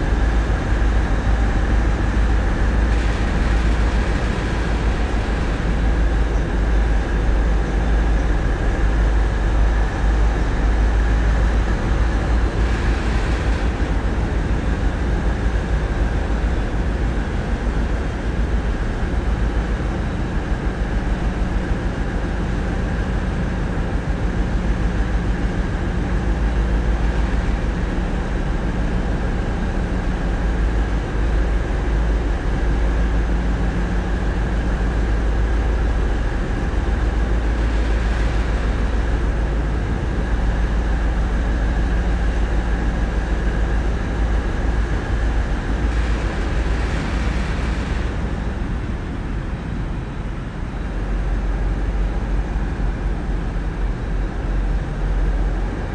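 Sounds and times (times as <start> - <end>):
boat diesel engines droning: 0.0 - 55.9.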